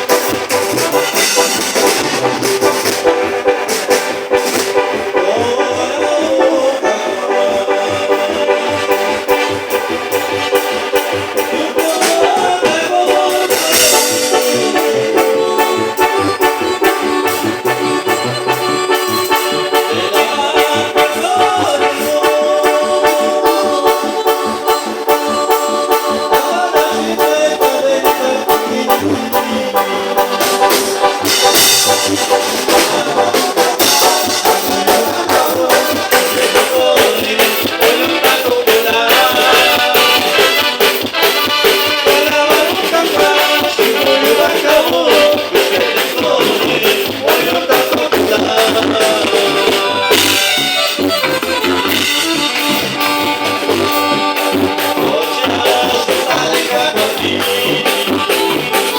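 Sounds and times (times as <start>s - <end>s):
accordion melody: 0.0s - 58.9s
latin band music: 0.0s - 58.9s.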